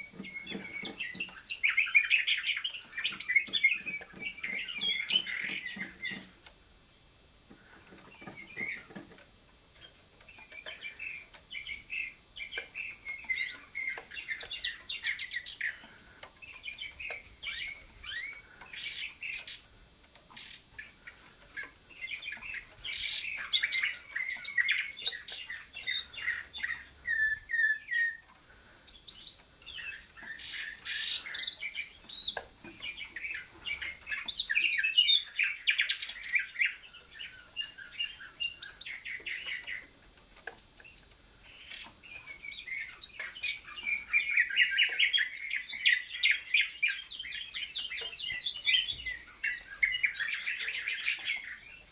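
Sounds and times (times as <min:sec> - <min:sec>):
canaries singing: 0:00.0 - 0:51.9
nightingale warbling song: 0:00.0 - 0:51.9.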